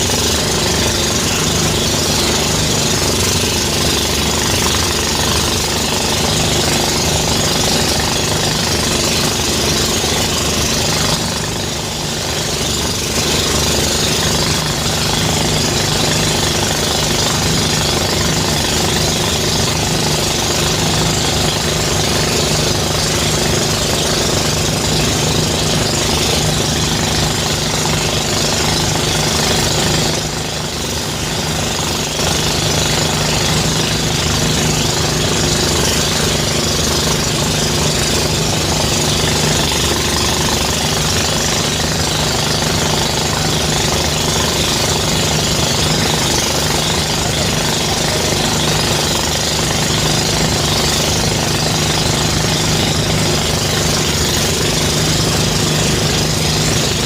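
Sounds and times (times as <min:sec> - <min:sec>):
thresher engine hum: 0:00.0 - 0:57.0
threshing drum rattling: 0:00.0 - 0:57.0.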